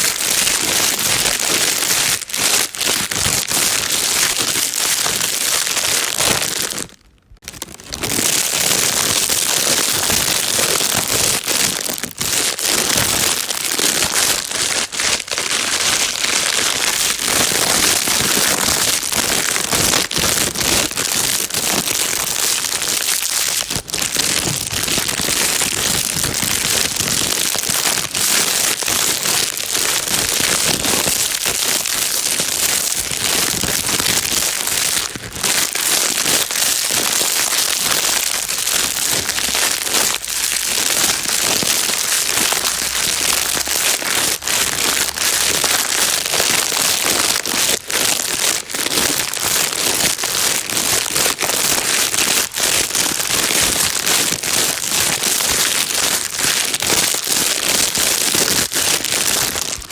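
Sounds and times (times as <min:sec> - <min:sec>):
plastic bag crumpling: 0:00.0 - 0:59.9.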